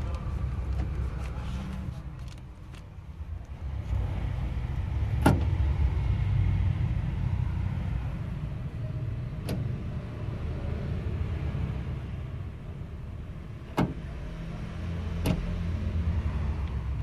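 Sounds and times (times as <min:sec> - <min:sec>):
low steady rumble: 0:00.0 - 0:14.1.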